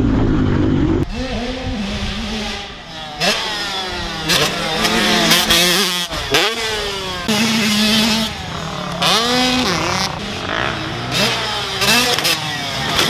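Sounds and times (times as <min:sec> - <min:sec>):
two-stroke dirt bike engine revving: 0:01.0 - 0:13.0.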